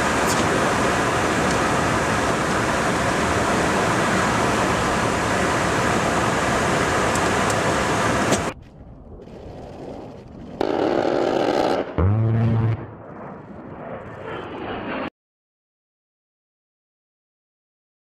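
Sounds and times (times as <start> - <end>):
jet engines and airflow roar: 0.0 - 15.1.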